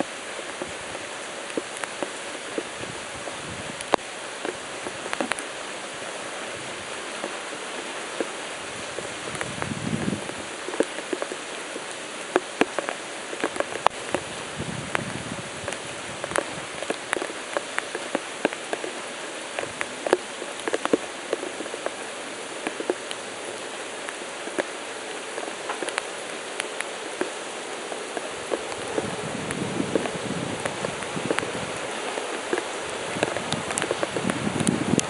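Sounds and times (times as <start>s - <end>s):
rain falling: 0.0s - 35.0s
raindrop ticks: 0.0s - 35.0s.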